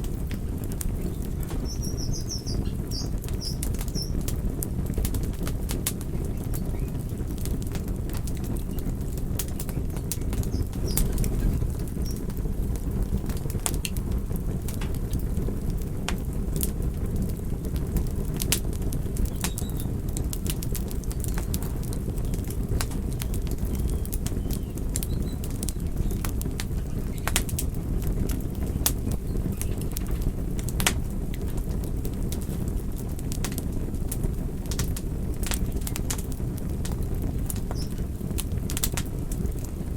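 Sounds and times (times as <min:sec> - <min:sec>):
crackles and pops of burning logs: 0:00.0 - 0:39.9
low rumble of flames: 0:00.0 - 0:39.9.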